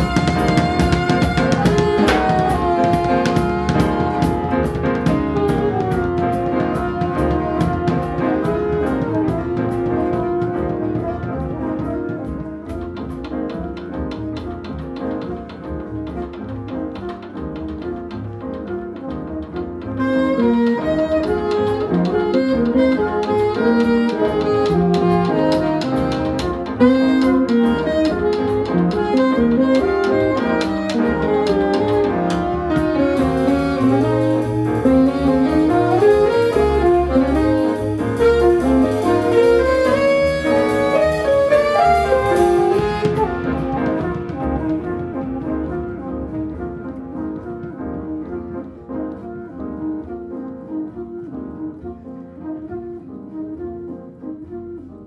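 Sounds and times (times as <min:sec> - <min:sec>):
small jazz band playing: 0:00.0 - 0:55.0.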